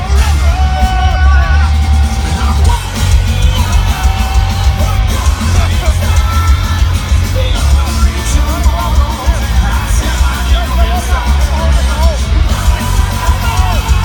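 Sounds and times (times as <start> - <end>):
distorted electric guitars: 0.0 - 14.0
drums: 0.0 - 14.0
heavy bass: 0.0 - 14.0.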